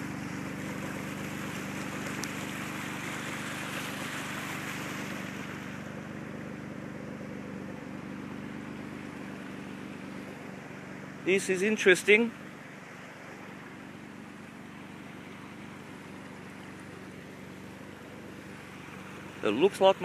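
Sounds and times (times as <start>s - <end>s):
floodwater rushing down creek: 0.0s - 20.0s
vehicle engine idling: 0.0s - 20.0s.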